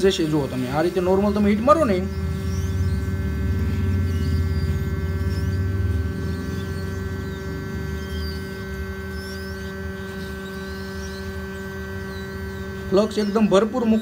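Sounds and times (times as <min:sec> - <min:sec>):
hot-air gun blowing with whine: 0:00.0 - 0:14.0.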